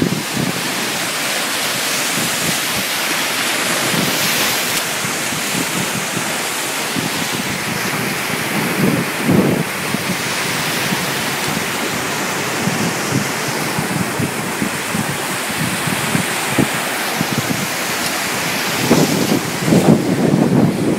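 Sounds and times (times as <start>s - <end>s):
sea surf rushing: 0.0s - 20.9s
wind buffeting microphone: 0.0s - 20.9s.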